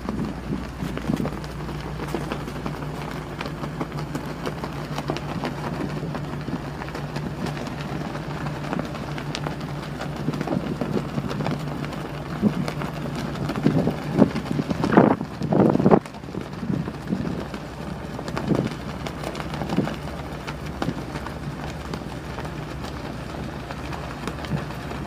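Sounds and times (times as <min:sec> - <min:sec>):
low machinery hum: 0:00.0 - 0:25.0
wind buffeting microphone: 0:00.0 - 0:25.0.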